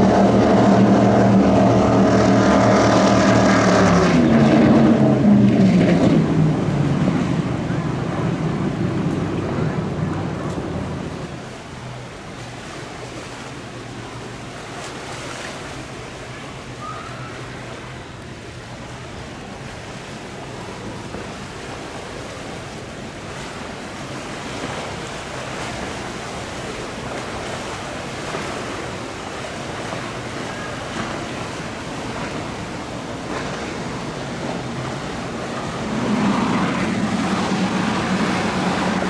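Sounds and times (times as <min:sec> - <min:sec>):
boat engine drone: 0:00.0 - 0:39.0
surf: 0:00.0 - 0:39.0
wind: 0:00.0 - 0:39.0.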